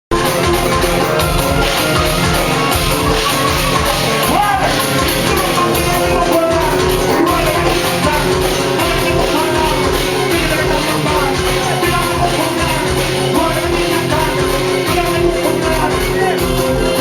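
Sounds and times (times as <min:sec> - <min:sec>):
party music with heavy bass beat: 0:00.1 - 0:17.0
person singing: 0:00.2 - 0:17.0.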